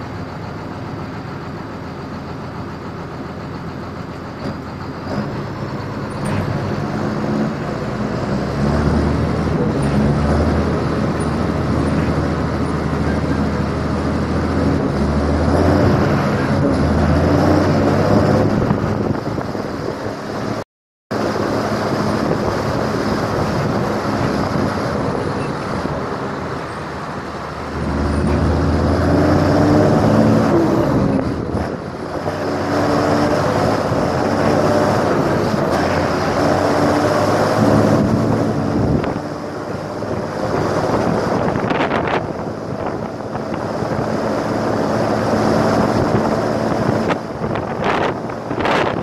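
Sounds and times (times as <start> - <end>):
vehicle engine running: 0.0 - 49.0
wind noise: 6.2 - 49.0.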